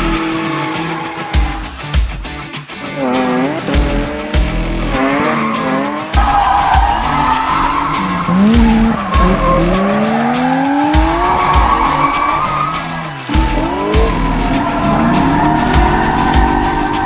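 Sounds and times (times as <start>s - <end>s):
tyre squeal: 0.0s - 1.6s, 5.0s - 17.0s
music with heavy low beat: 0.0s - 17.0s
car engine revving hard: 3.0s - 17.0s.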